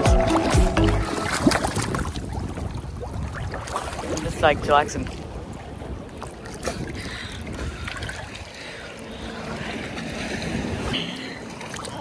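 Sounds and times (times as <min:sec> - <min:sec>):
seawater sloshing and lapping: 0:00.2 - 0:12.0.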